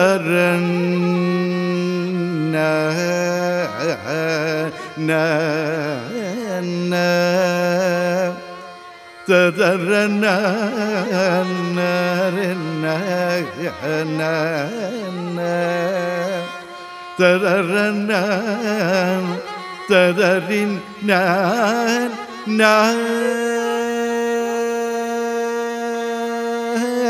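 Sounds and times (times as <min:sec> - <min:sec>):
man singing melodic syllables: 0:00.0 - 0:27.0.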